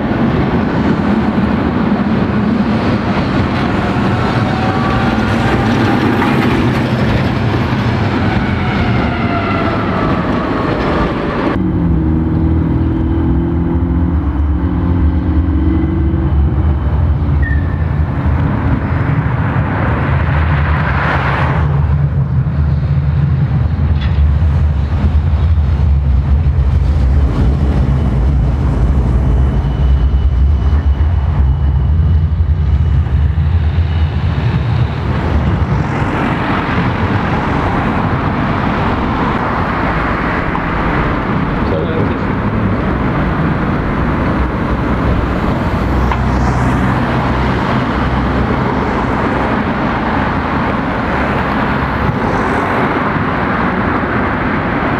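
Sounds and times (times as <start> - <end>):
street noise: 0.0 - 54.9
tram motor whine: 0.0 - 54.9
tram passing with low hum: 0.0 - 54.9.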